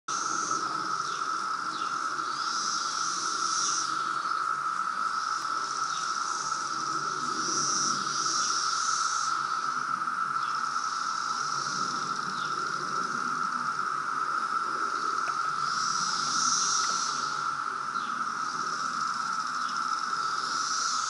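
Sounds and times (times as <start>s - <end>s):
cicada chorus: 0.0s - 21.0s.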